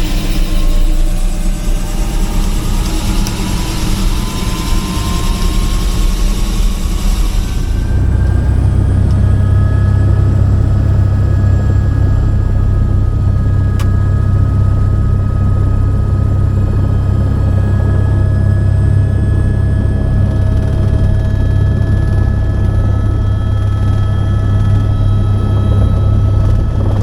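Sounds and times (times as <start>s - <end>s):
helicopter rotor drone: 0.0s - 27.0s
high turbine whine: 0.0s - 27.0s.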